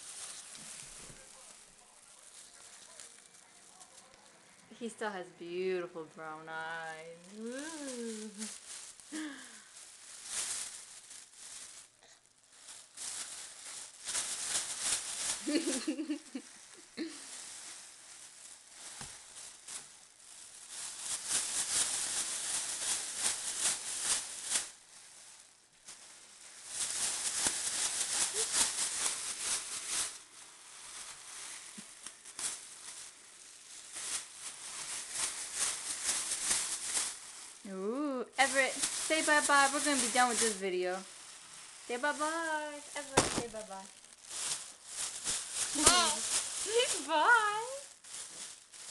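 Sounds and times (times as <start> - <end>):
plastic bags crinkling: 0.0 - 48.9.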